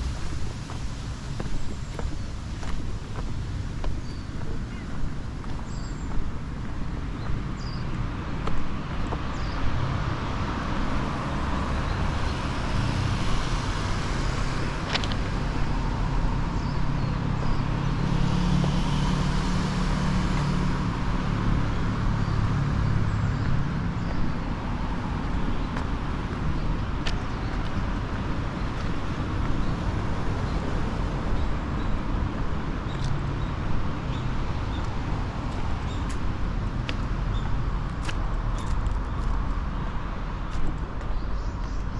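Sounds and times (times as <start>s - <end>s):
road traffic noise: 0.0s - 41.9s
vehicle engine hum: 0.0s - 41.9s.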